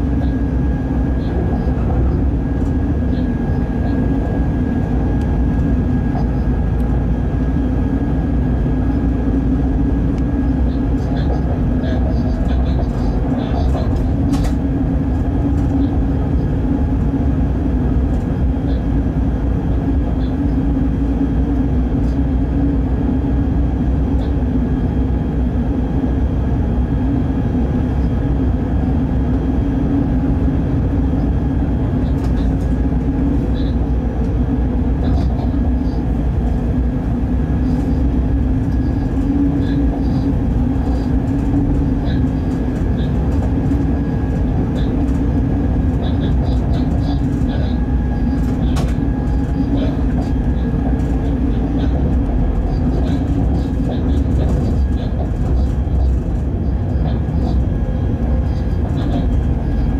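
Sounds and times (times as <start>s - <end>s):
locomotive cab rumble and drone: 0.0s - 59.9s.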